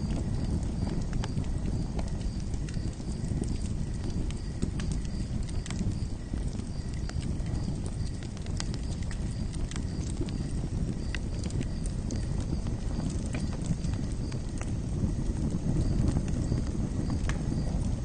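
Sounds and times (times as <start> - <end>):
burning wood popping: 0.0 - 18.0
campfire crackling: 0.0 - 18.0.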